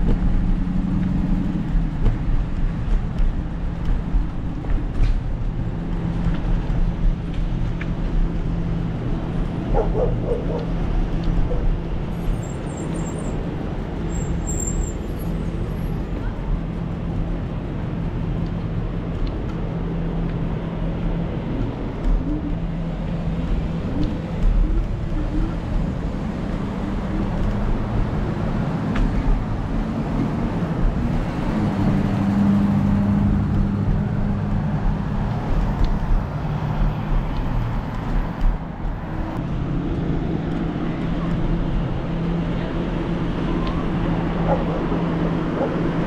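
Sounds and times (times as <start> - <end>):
road noise: 0.0 - 46.0
vehicle engine hum: 0.0 - 46.0.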